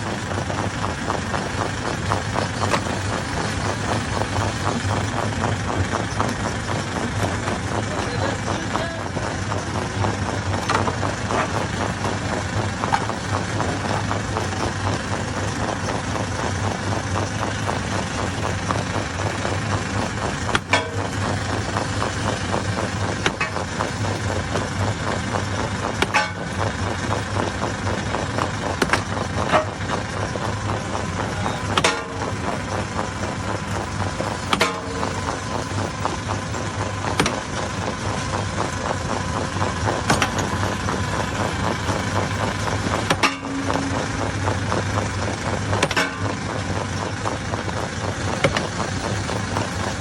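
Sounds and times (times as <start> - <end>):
stone crusher humming: 0.0 - 50.0.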